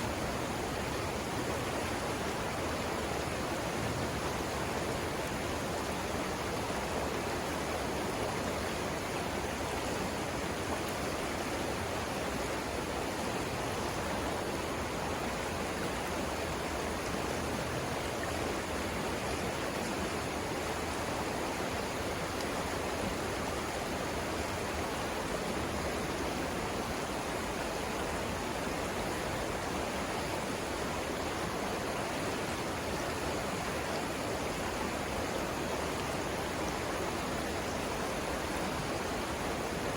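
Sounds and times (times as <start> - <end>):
river water rushing over rapids: 0.0 - 39.9.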